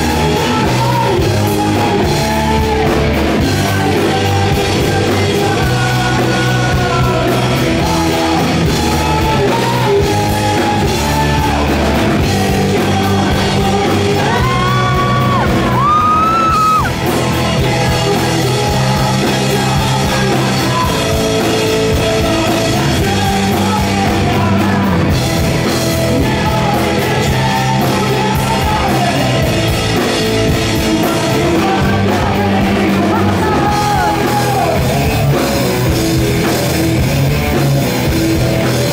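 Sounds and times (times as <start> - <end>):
man singing: 0.0 - 38.9
rock band playing: 0.0 - 38.9.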